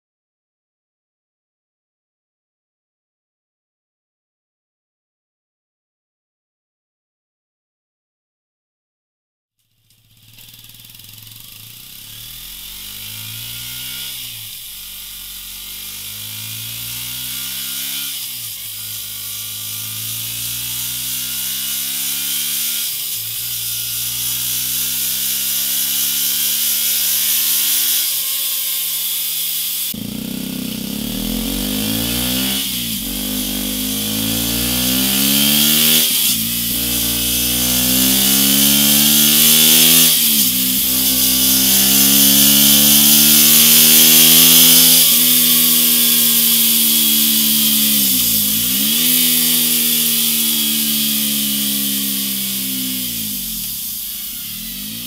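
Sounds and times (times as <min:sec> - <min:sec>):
motorcycle engine revving: 0:09.6 - 0:55.0.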